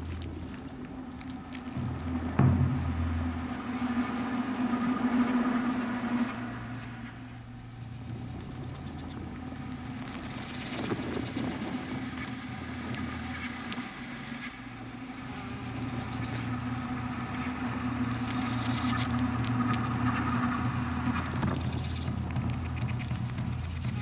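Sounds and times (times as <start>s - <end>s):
crackles and clicks: 0.0s - 5.2s, 6.0s - 24.0s
ambient drone music: 0.0s - 24.0s.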